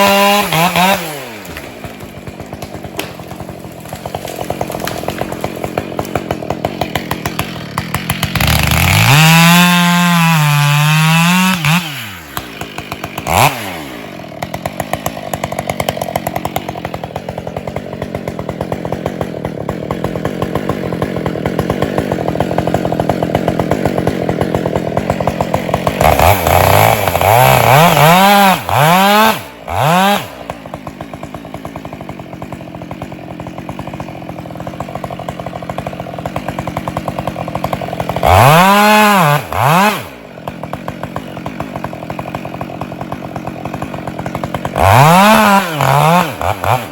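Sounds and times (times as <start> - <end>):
chainsaw idling and revving: 0.0 - 46.9.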